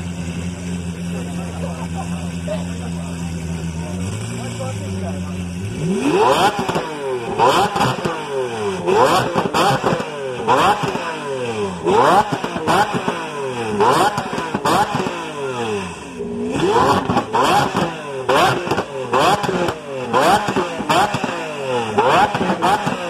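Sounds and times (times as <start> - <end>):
exhaust cracks: 0.0 - 23.0
engine revving hard: 3.6 - 23.0.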